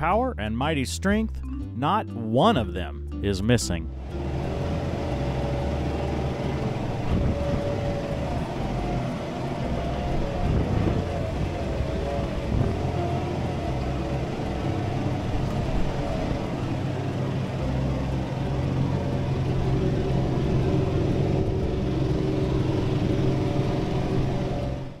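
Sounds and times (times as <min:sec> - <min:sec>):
tractor diesel engine running: 0:03.9 - 0:25.0.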